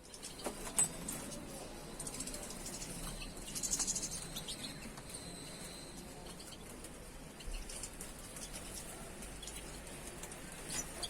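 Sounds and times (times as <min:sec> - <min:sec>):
songbird chirping and twittering: 0:00.0 - 0:11.0.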